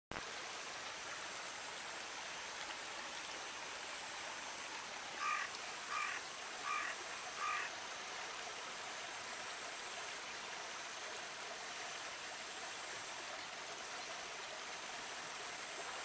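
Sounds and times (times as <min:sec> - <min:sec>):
stream flowing over stones: 0:00.1 - 0:16.0.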